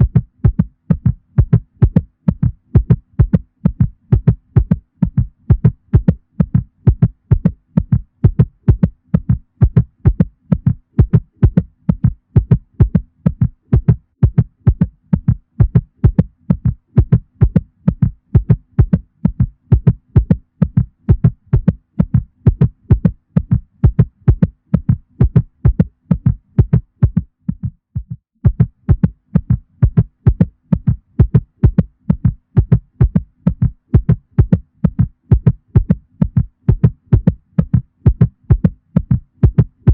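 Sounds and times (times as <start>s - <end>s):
cat heartbeat: 0.0s - 39.9s.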